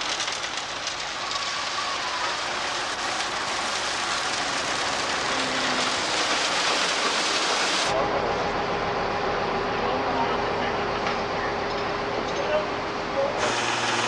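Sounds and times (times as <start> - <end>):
heavy machinery clatter and rumble: 0.0 - 14.0.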